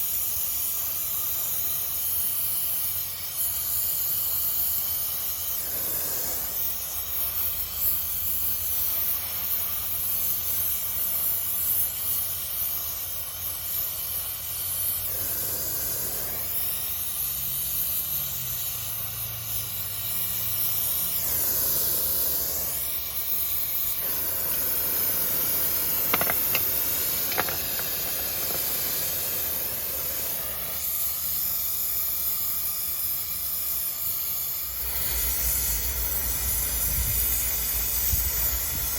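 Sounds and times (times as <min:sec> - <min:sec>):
welding torch flame hissing: 0:00.0 - 0:38.9.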